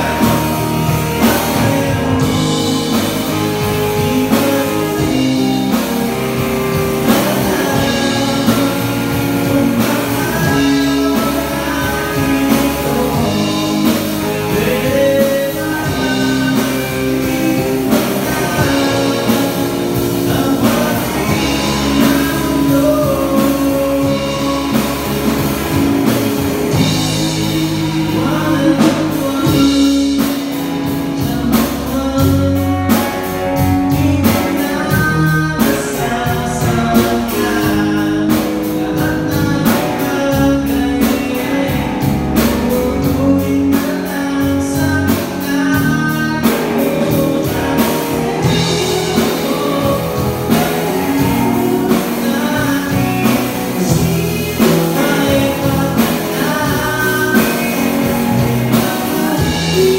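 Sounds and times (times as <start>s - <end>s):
drum kit: 0.0s - 59.9s
electric bass: 0.0s - 59.9s
electric guitar: 0.0s - 59.9s
person singing lead vocal: 0.0s - 59.9s.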